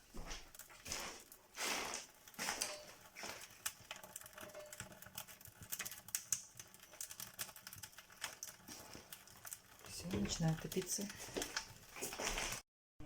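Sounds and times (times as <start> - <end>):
fire crackling in stove: 0.0 - 12.6.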